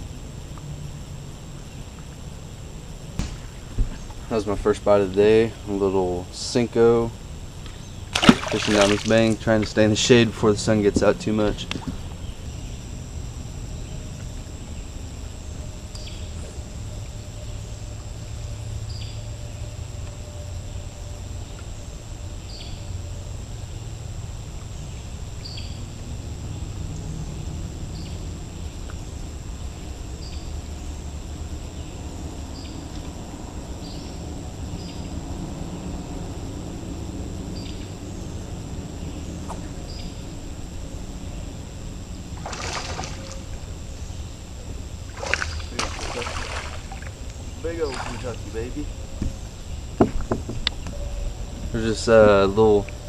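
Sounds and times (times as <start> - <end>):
thin insect drone: 0.0 - 53.0.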